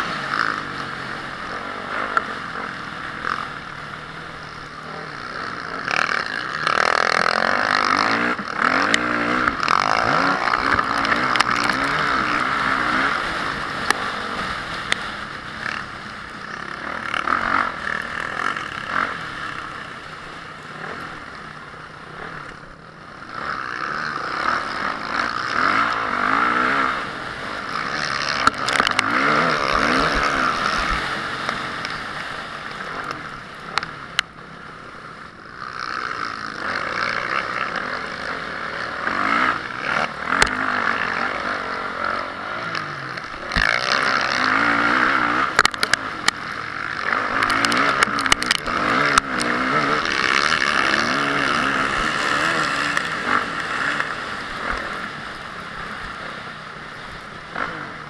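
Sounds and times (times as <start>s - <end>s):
motocross engine revving: 0.0s - 34.4s, 35.4s - 58.0s.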